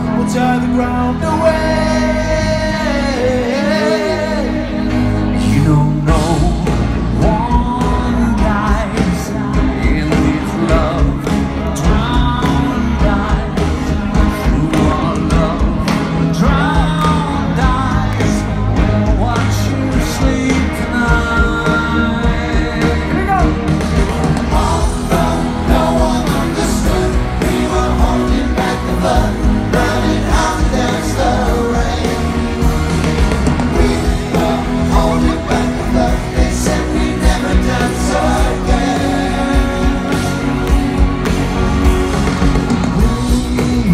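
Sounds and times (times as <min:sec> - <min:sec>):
man singing: 0:00.0 - 0:41.4, 0:42.7 - 0:43.9
live pop band: 0:00.0 - 0:43.9.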